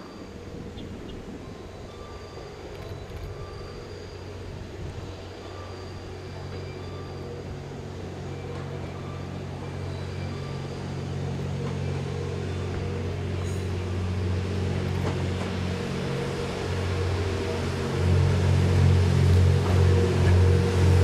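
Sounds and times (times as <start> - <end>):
railcar engine droning: 0.0 - 21.0.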